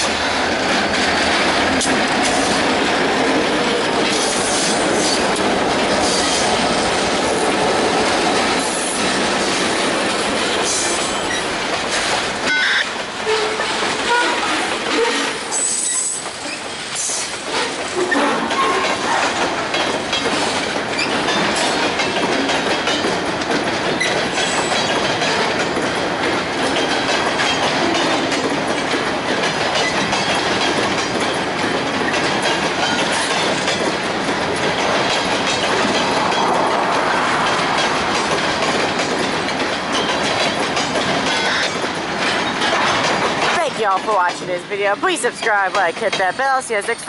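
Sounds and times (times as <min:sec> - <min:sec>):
steel wheels running on rails: 0:00.0 - 0:47.0.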